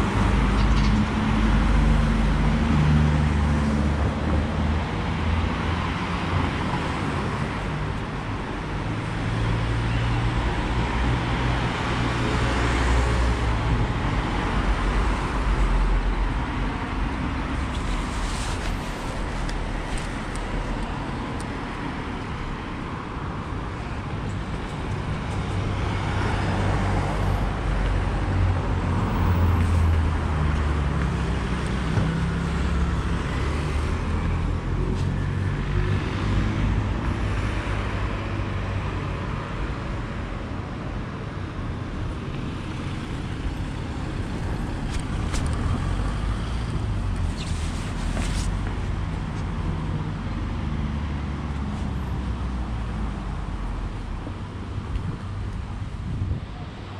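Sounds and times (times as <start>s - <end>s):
car engines and tyre noise: 0.0s - 56.9s.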